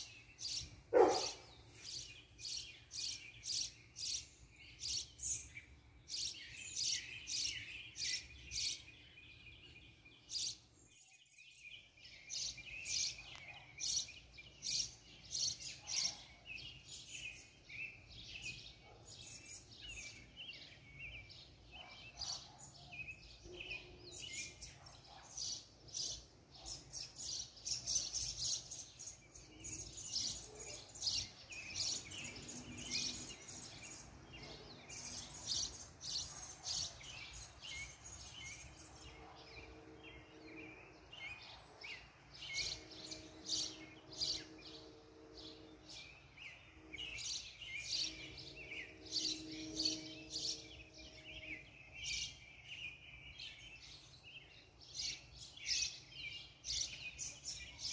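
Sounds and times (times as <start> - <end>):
birds chirping and singing: 0.0 - 57.9.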